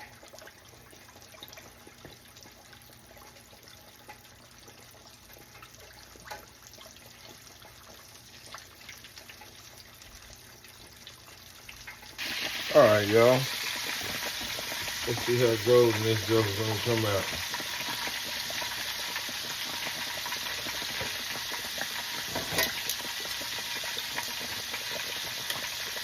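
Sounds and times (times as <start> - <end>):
meat deep-frying in grease: 0.0 - 26.0.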